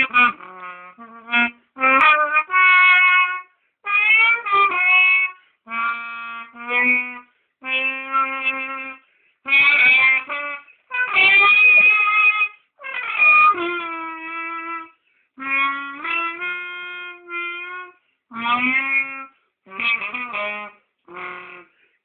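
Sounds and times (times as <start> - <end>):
wind instrument jazzy melody: 0.0 - 21.8.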